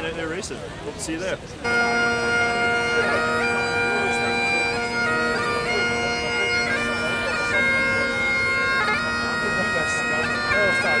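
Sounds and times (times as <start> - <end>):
bagpipes playing a tune: 1.6 - 11.0.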